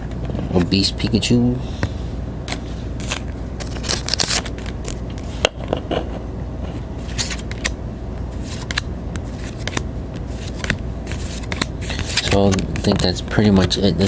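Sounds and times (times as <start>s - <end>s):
trading cards flicking and rustling: 1.8s - 6.1s, 6.7s - 14.0s.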